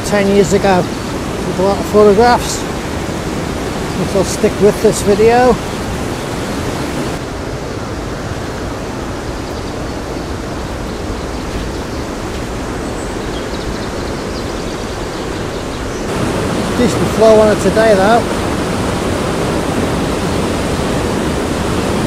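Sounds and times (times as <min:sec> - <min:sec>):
river rushing over rocks: 0:00.0 - 0:13.3, 0:13.9 - 0:22.0.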